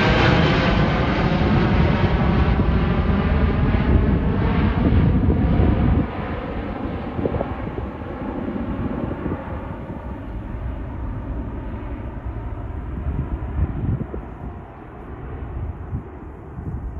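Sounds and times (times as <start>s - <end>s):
jet engine rumble: 0.0s - 16.9s.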